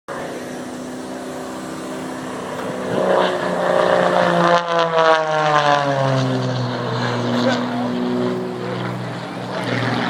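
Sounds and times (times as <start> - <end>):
propeller aircraft flying past: 0.1 - 10.0.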